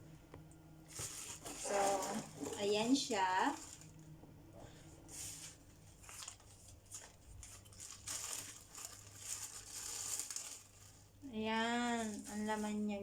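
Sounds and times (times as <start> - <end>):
packaging wrap crinkling: 0.9 - 4.2, 5.1 - 13.0.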